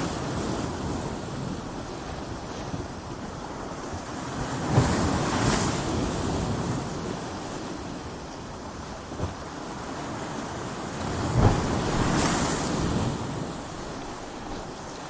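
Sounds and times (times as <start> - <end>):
ocean waves crashing: 0.0 - 15.0
wind buffeting microphone: 0.0 - 15.0.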